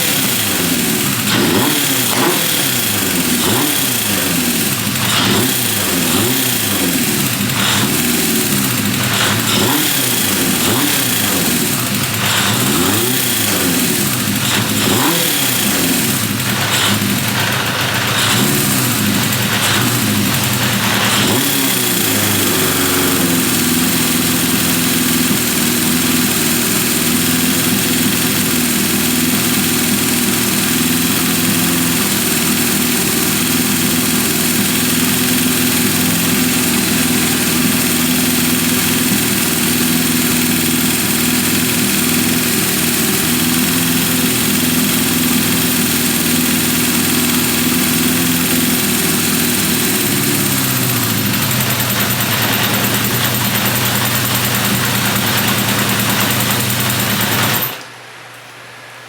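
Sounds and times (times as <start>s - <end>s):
motorcycle engine idling: 0.0s - 57.8s.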